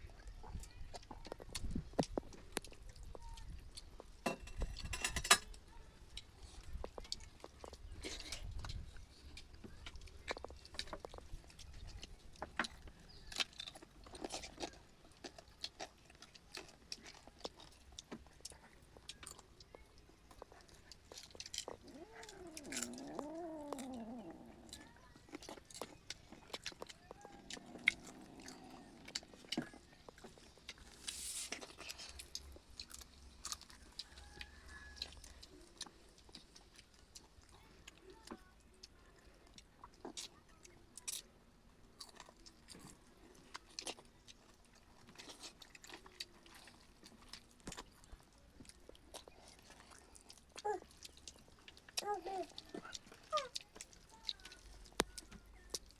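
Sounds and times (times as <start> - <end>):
chewing with crisp crunches: 0.0 - 55.9.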